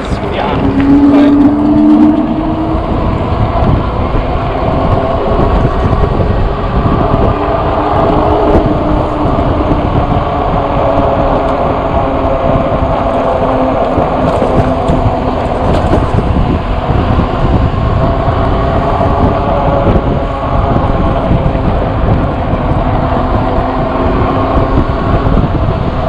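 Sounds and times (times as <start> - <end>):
road noise: 0.0 - 26.0
wind rushing: 0.0 - 26.0.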